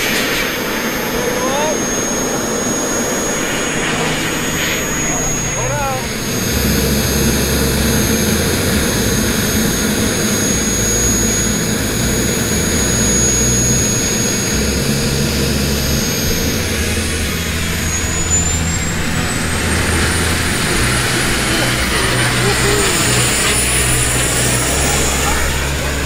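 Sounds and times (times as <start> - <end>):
low rumble: 0.0 - 26.0
model plane motor whine: 0.0 - 26.0.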